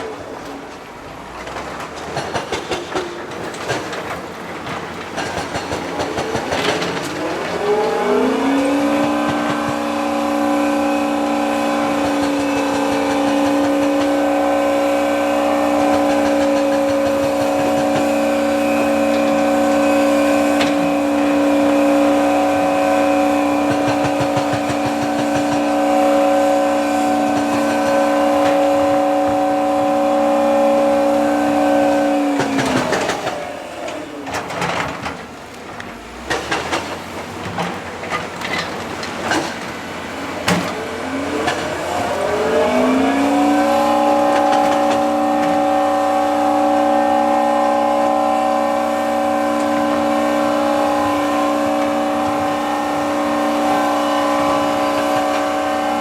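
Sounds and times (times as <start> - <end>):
diesel engine revving: 6.4 - 34.9, 36.0 - 56.0.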